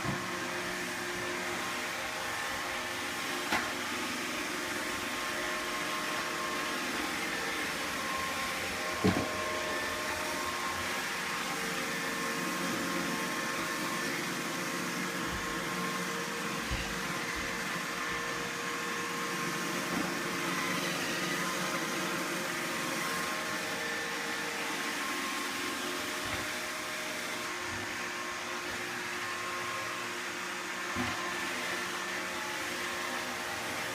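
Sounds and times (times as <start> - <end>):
robot vacuum whirring hum: 0.0 - 33.9.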